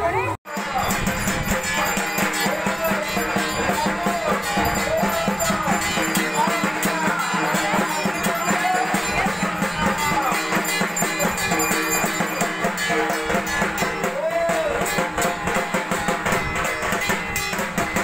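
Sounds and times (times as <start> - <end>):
music with fast beat and melody: 0.5 - 18.0.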